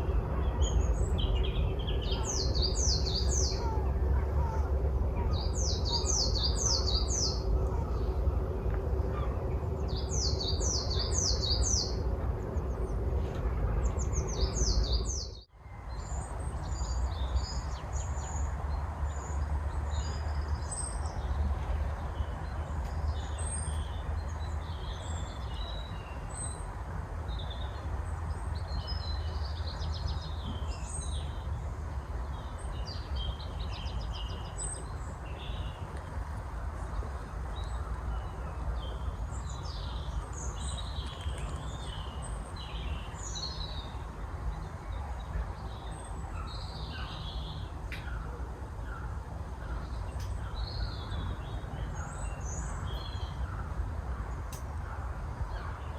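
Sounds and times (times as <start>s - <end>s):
birds chirping: 0.0s - 55.9s
steady low rumble: 0.0s - 55.9s.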